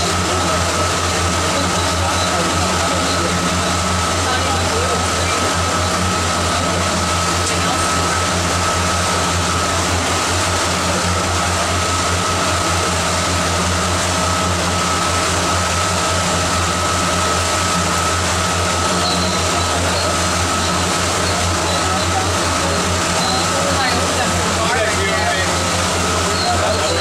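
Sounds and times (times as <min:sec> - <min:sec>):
boat engine low hum: 0:00.0 - 0:27.0.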